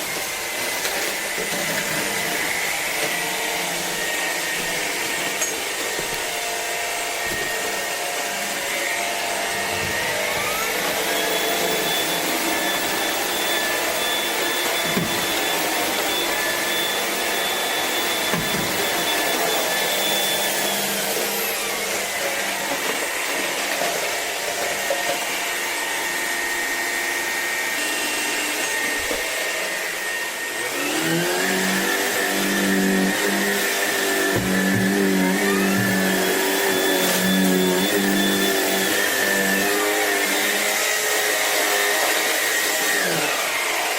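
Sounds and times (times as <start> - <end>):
stick vacuum running: 0.0 - 43.9.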